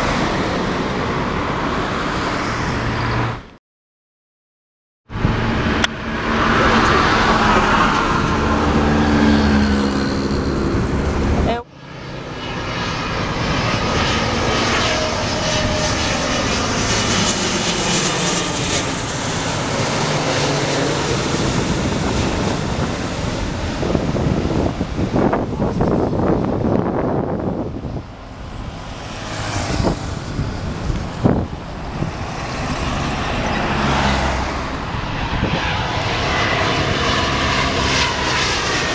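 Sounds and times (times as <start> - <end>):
jet airliner engines roaring: 0.0 - 3.6, 5.1 - 38.9.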